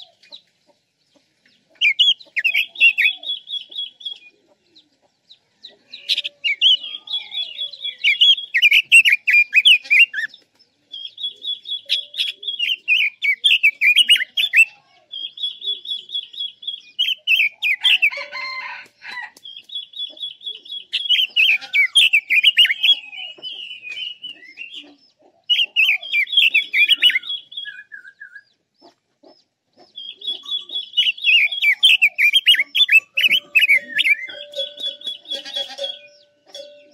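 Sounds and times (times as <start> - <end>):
bird warbling song: 0.0 - 36.9.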